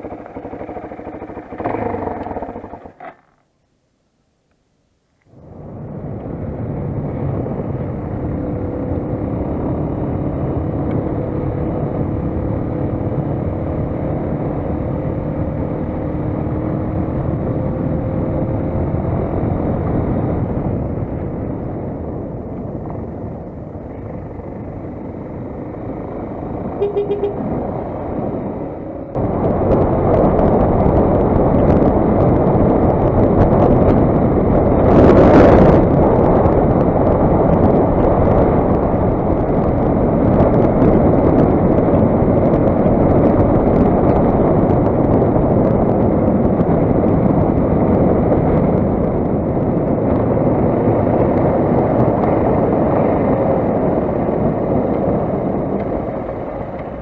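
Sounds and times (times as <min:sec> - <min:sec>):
motorcycle engine running: 0:00.0 - 0:03.4, 0:05.4 - 0:57.0
wind noise on microphone: 0:05.3 - 0:57.0.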